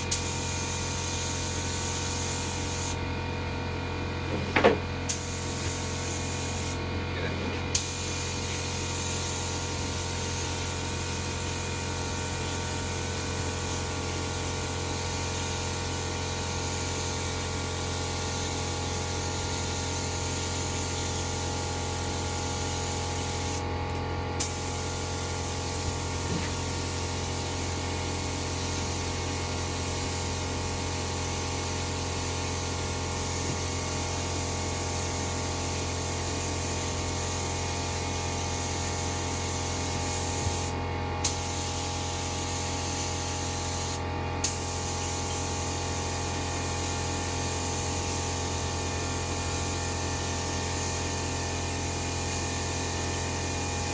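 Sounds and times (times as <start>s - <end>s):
air spray gun hissing: 0.0s - 3.0s, 5.1s - 6.8s, 7.7s - 53.9s.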